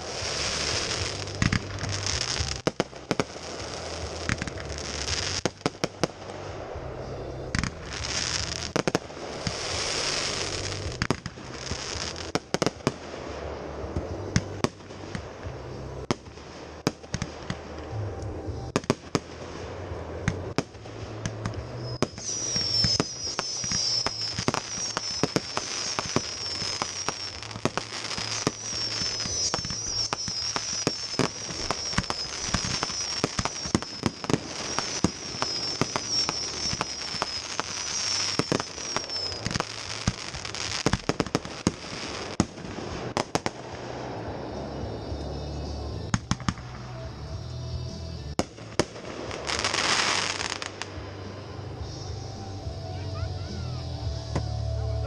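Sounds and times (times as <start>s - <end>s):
high warbling firework whistle: 0.0s - 47.2s, 48.4s - 55.0s
fireworks bangs and crackling: 0.0s - 55.0s.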